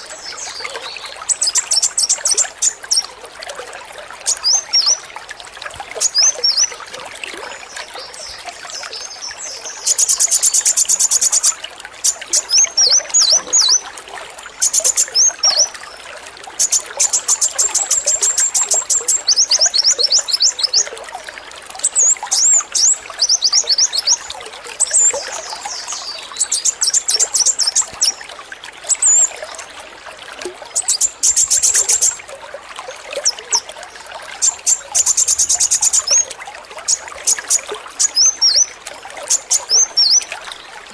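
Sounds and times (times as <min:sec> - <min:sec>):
water trickling: 0:00.0 - 0:40.9.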